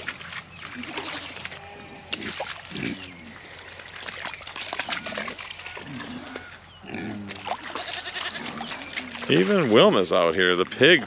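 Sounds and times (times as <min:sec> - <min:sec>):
hooves splashing in water: 0:00.0 - 0:11.0
goats calling: 0:00.6 - 0:10.0
pigs calling: 0:00.6 - 0:11.0.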